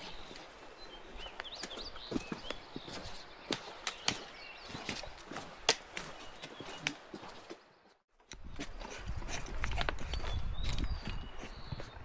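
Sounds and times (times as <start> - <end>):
footsteps on rocky trail: 0.0 - 12.0
small birds chirping: 0.0 - 12.0.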